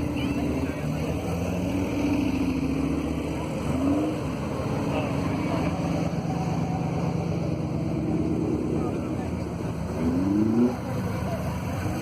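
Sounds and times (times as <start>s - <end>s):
car engine running: 0.0s - 12.0s
murmur of voices: 0.0s - 12.0s.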